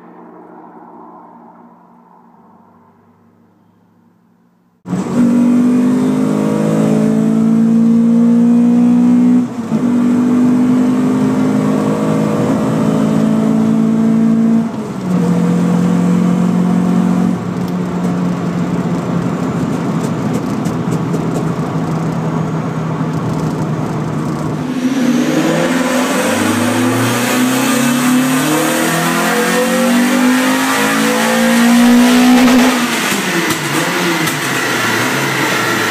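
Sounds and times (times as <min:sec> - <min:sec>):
car engine under load: 0:00.0 - 0:35.9.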